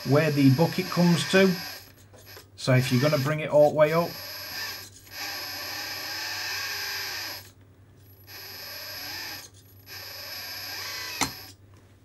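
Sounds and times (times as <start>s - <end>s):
hydraulic pump whirring: 0.0s - 7.5s, 8.3s - 11.6s.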